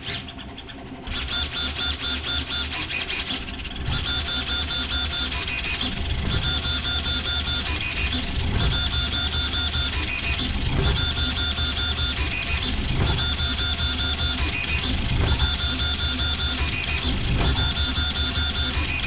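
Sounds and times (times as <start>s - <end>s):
printer motors whining: 0.0s - 19.0s.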